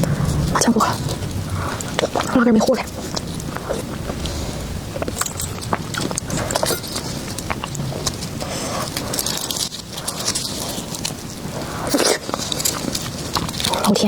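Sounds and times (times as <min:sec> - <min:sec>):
small clicks and crackles: 0:00.0 - 0:14.0
wet chewing: 0:00.0 - 0:14.0.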